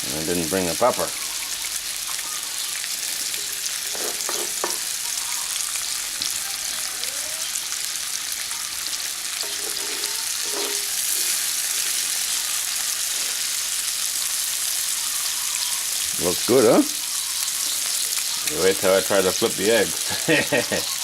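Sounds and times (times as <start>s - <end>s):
eggs sizzling in a pan: 0.0s - 21.0s.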